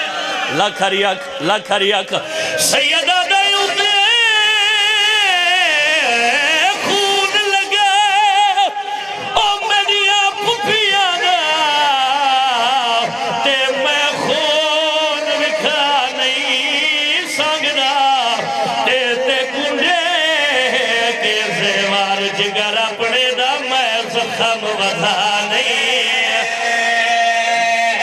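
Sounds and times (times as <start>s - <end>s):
man singing a lament: 0.0s - 28.0s.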